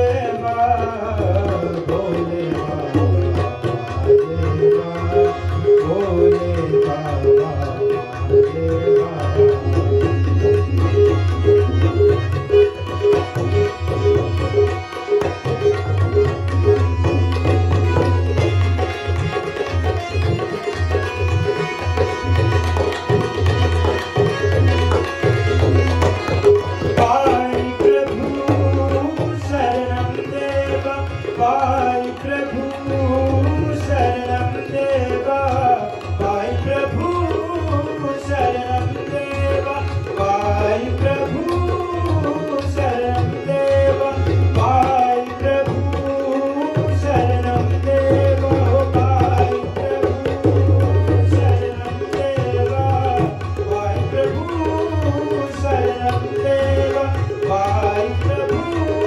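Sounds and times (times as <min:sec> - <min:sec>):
harmonium: 0:00.0 - 0:59.0
man singing devotional song: 0:00.0 - 0:59.0
tabla drumming: 0:00.0 - 0:59.0.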